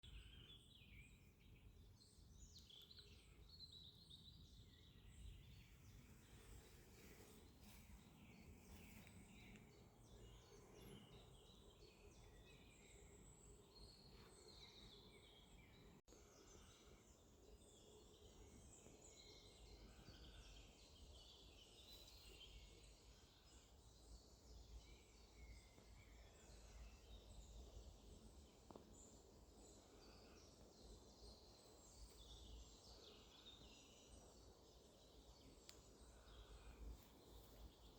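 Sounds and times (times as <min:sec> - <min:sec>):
small birds chirping and singing: 0:00.0 - 0:37.9.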